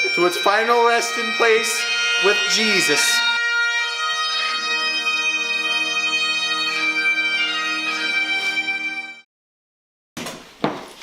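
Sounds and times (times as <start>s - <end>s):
bagpipe music: 0.0s - 9.3s.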